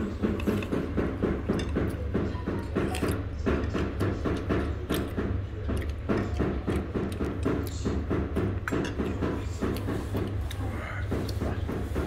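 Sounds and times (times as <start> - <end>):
rapid knocking: 0.0 - 12.0.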